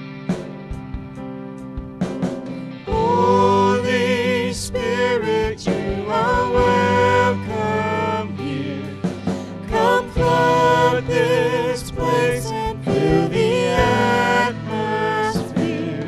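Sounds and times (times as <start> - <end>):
electric bass guitar: 0.0 - 16.0
worship band playing slow song: 0.0 - 16.0
person singing with vibrato: 2.9 - 16.0.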